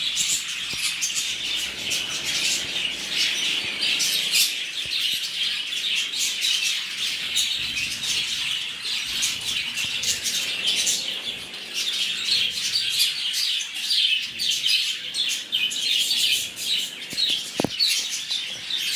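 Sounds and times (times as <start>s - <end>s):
finches chirping: 0.0s - 18.9s.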